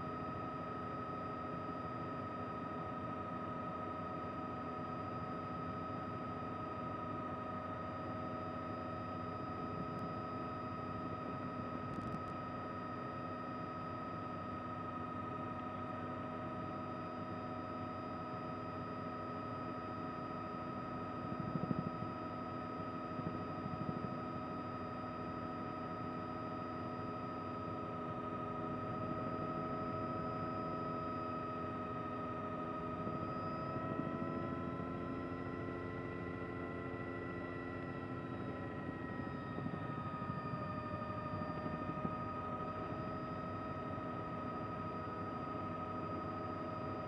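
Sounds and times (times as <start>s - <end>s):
helicopter turbine whine and rotor: 0.0s - 47.0s.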